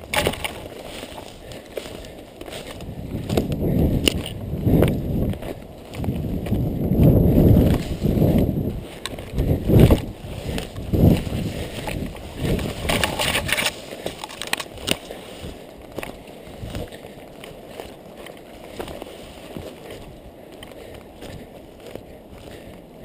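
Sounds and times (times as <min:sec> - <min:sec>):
running footsteps thudding: 0:00.0 - 0:23.0
twigs crackling underfoot: 0:00.0 - 0:23.0.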